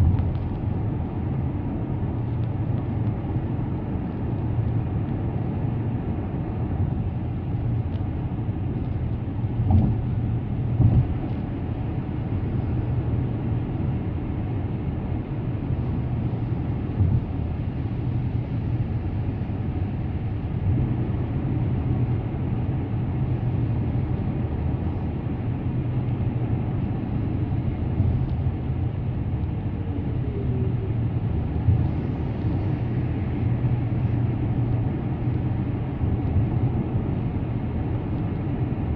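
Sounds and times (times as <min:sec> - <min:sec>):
road and engine rumble: 0:00.0 - 0:38.9.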